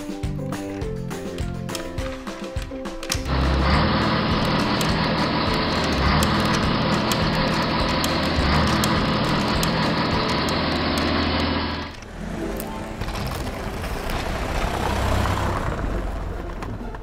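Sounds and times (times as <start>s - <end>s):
vehicle engine rumble: 3.2s - 17.0s.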